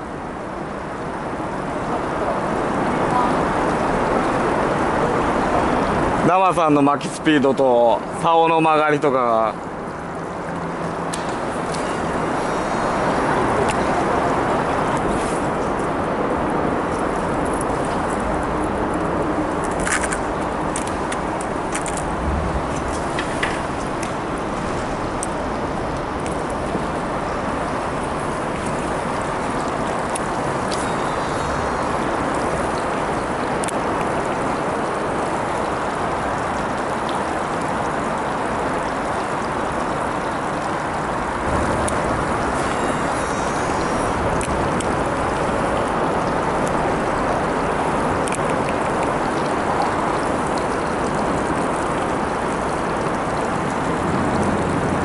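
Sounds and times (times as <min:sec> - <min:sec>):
water and air rushing around boat: 0:00.0 - 0:55.0.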